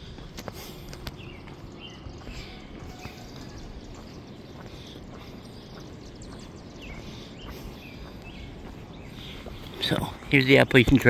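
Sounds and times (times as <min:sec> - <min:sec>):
birds chirping: 0:00.0 - 0:11.0
footsteps on asphalt: 0:00.0 - 0:11.0.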